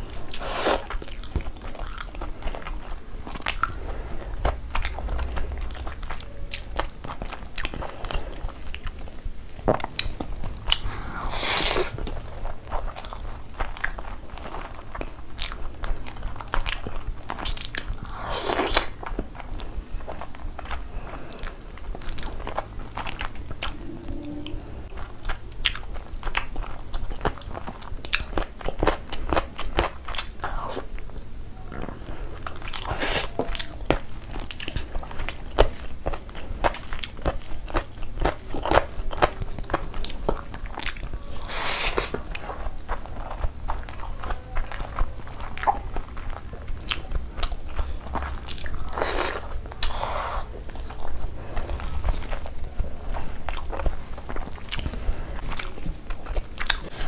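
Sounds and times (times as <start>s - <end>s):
wet chewing and mouth smacks: 0.1s - 31.1s, 31.7s - 57.0s.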